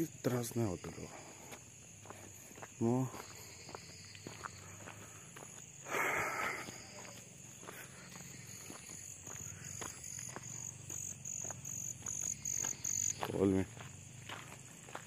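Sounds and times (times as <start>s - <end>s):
insects chirring: 0.0s - 15.0s
faint footsteps: 1.1s - 15.0s.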